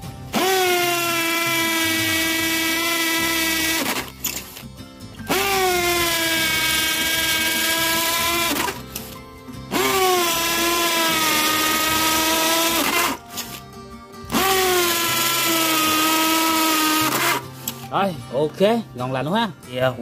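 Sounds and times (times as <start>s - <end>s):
hammer drill boring into brick: 0.3s - 4.6s, 5.3s - 13.6s, 14.3s - 17.8s.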